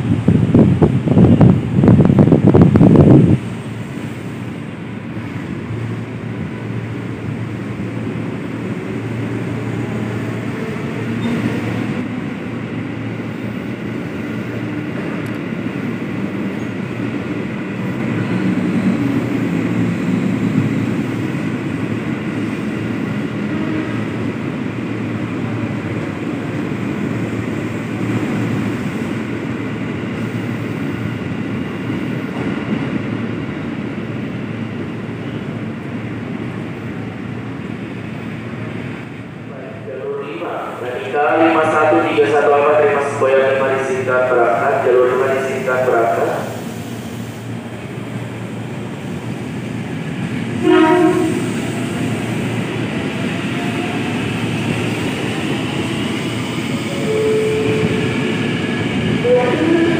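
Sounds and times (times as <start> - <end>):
electric train rumble and hum: 0.0 - 59.9.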